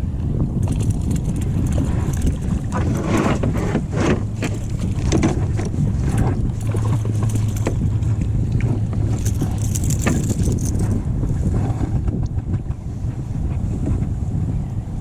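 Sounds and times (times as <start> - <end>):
wind rumbling on microphone: 0.0 - 15.0
water splashes and slaps: 0.6 - 12.8.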